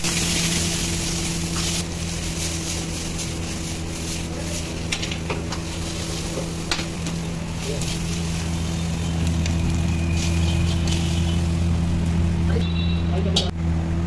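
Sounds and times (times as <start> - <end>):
rice sizzling in a wok: 0.0 - 12.4.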